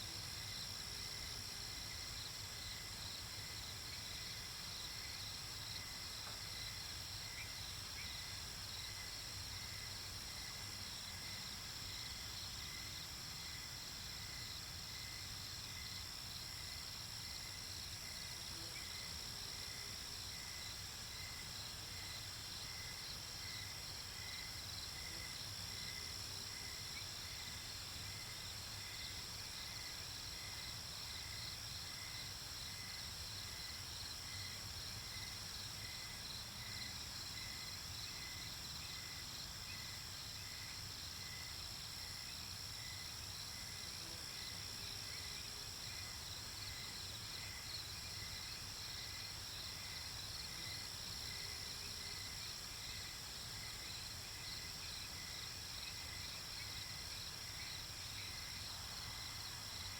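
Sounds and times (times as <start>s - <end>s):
low cricket chirp: 0.0s - 59.9s.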